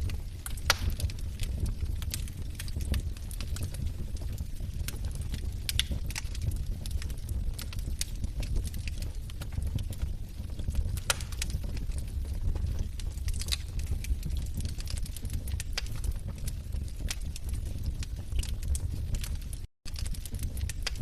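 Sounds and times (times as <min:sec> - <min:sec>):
log fire crackling: 0:00.0 - 0:21.0.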